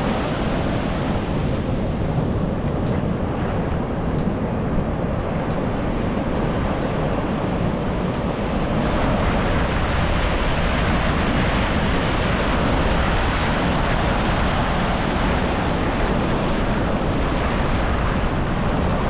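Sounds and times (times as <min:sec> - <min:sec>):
ocean surf: 0:00.0 - 0:19.0
wind on microphone: 0:00.0 - 0:19.0.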